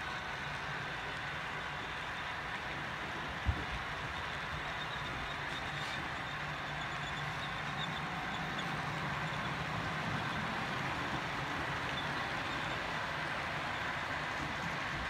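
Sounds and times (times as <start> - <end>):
model train wheels rattling on rails: 0.0 - 15.0.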